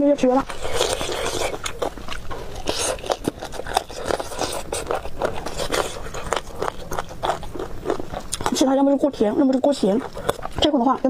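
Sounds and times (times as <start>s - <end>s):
chewing and biting: 0.3s - 11.0s.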